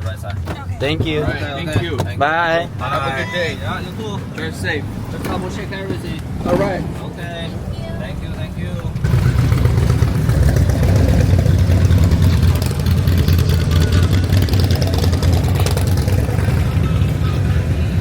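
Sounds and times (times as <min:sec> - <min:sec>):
car driving rumble: 0:00.0 - 0:18.0
road and wind noise: 0:00.0 - 0:18.0.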